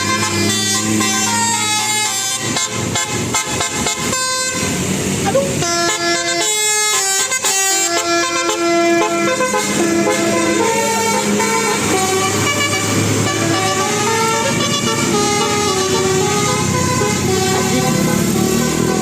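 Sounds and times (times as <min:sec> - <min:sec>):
bus musical horn playing a tune: 0:00.0 - 0:19.0.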